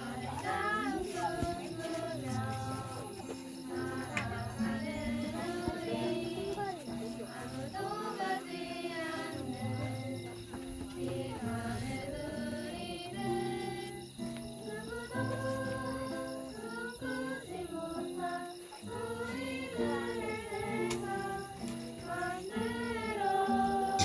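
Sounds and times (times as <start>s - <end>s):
children and adult singing: 0.0s - 24.0s.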